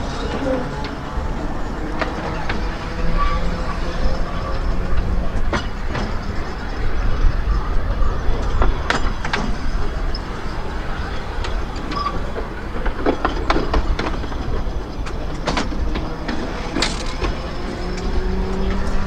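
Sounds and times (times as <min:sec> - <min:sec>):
tram rumbling on track: 0:00.0 - 0:19.0
wheels clicking on rails: 0:00.0 - 0:19.0.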